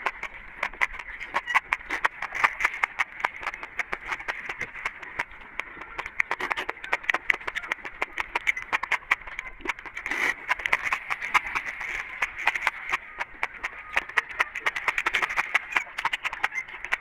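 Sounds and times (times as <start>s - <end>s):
crisp crunching of food: 0.0s - 17.0s
mouth clicks: 0.0s - 17.0s.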